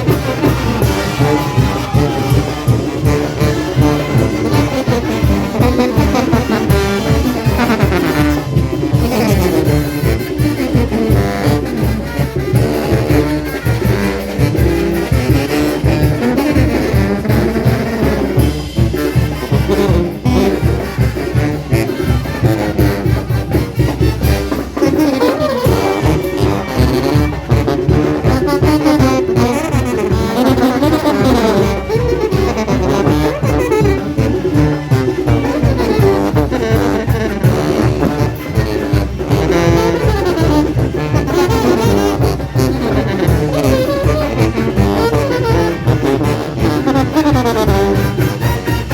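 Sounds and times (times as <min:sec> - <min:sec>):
brass band playing dance music: 0:00.0 - 0:48.9
fast drum beat: 0:00.0 - 0:48.9.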